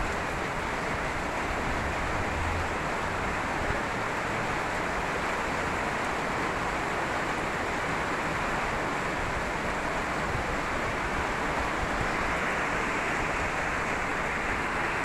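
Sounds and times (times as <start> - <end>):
heavy rain on a tiled patio: 0.0 - 15.0.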